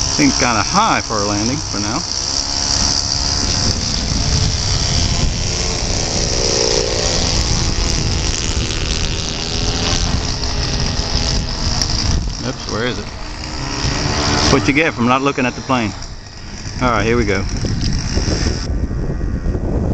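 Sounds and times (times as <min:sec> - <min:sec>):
high insect buzz: 0:00.0 - 0:18.7
model airplane engine: 0:00.0 - 0:19.9.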